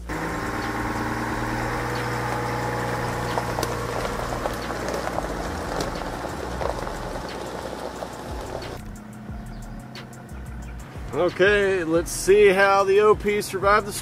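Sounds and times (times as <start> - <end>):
truck engine hum: 0.0 - 14.0
tyres crunching gravel: 0.0 - 14.0.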